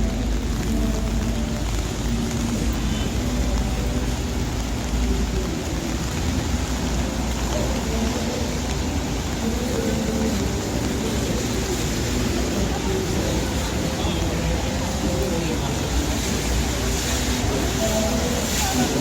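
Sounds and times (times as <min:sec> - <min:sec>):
faint voices of passers-by: 0:00.0 - 0:19.0
low traffic rumble: 0:00.0 - 0:19.0
rain hissing: 0:00.0 - 0:19.0
wet tyres on road: 0:00.0 - 0:19.0.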